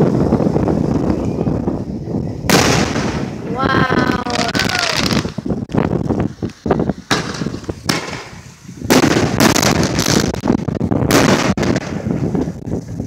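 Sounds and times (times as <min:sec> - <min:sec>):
fireworks crackling: 0:00.0 - 0:13.0
fireworks bangs: 0:02.4 - 0:13.0.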